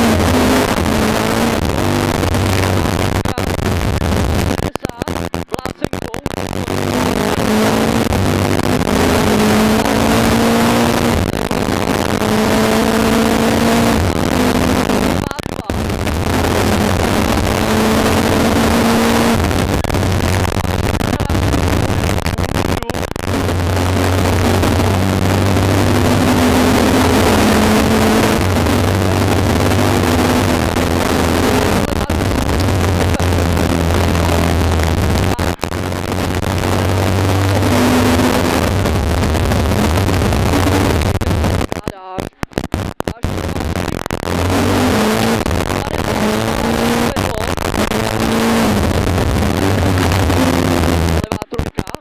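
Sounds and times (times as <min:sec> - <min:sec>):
road and wind noise: 0:00.0 - 0:04.5, 0:06.5 - 0:41.6, 0:43.6 - 0:51.2
rally car engine revving: 0:00.0 - 0:05.0, 0:05.6 - 0:41.8, 0:43.1 - 0:51.5.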